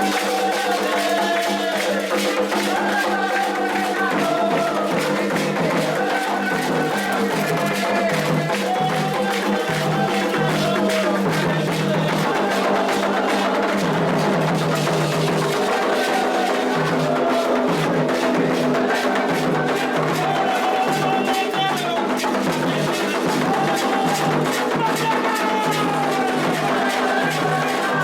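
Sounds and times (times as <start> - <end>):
drums and hand percussion: 0.0 - 28.0
voices singing a chant: 0.0 - 28.0.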